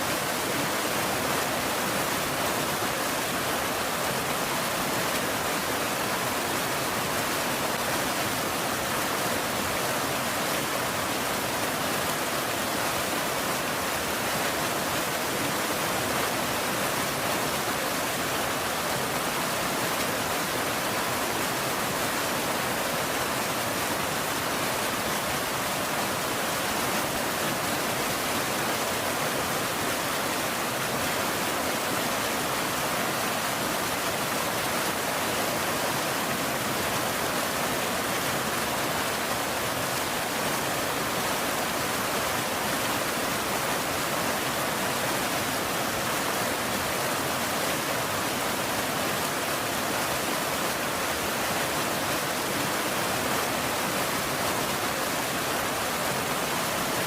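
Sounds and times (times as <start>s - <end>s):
dense rain hiss: 0.0s - 57.0s.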